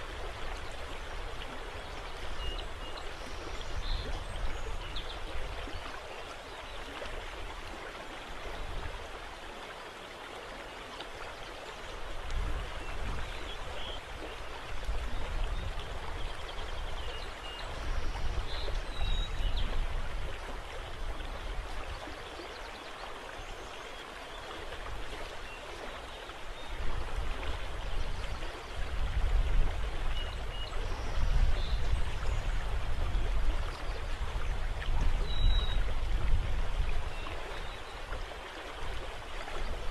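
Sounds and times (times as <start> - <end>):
river water lapping: 0.0 - 39.9.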